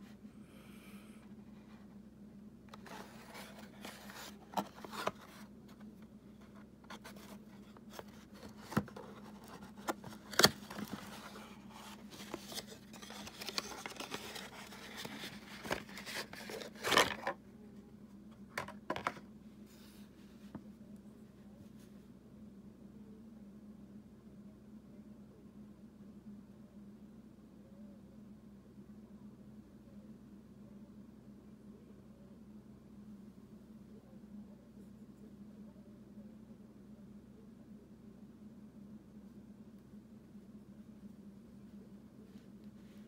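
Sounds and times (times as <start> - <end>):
faint hum: 0.0 - 43.0.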